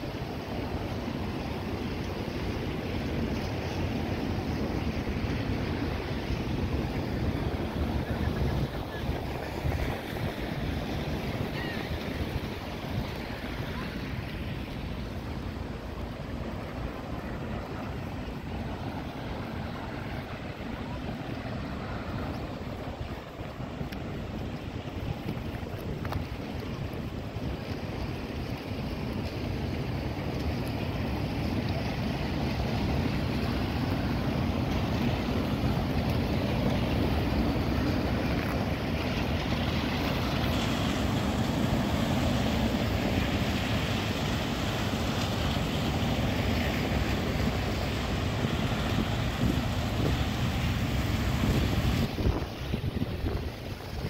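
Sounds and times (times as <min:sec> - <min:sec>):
traffic hissing on wet roads: 0:00.0 - 0:54.0
wind rumbling on microphone: 0:00.0 - 0:54.0.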